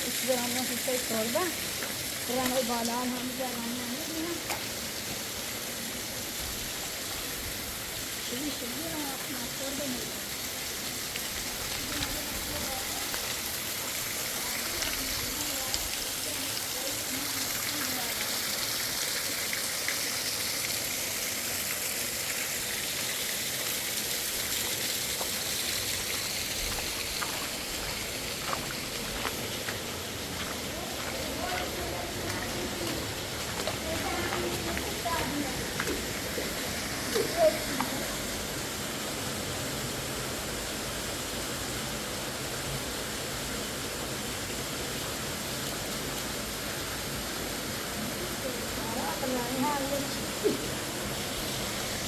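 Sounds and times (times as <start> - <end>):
water rushing: 0.0 - 52.0.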